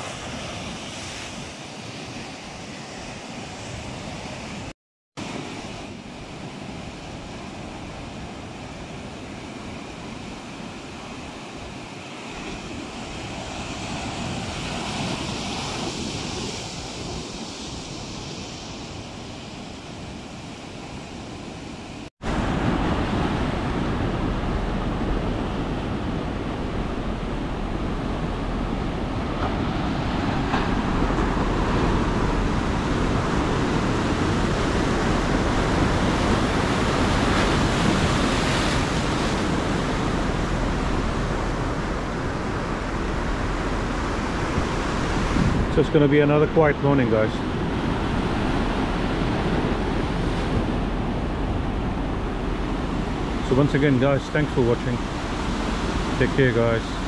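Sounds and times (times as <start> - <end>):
ocean surf breaking: 0.0 - 57.0
wind rumbling on microphone: 0.0 - 57.0.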